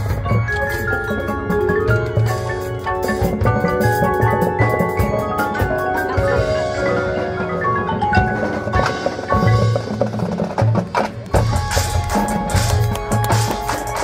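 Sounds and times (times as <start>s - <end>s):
mallet percussion runs: 0.0s - 14.0s
marching band music: 0.0s - 14.0s.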